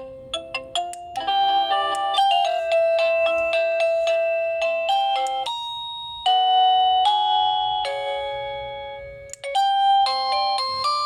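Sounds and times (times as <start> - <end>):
doorbell chime melody: 0.0 - 11.0.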